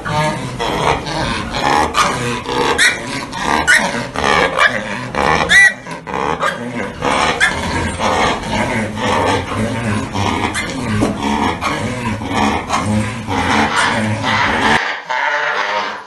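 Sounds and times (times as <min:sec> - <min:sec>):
pig squealing: 0:00.0 - 0:16.0
pigs grunting: 0:00.0 - 0:16.0.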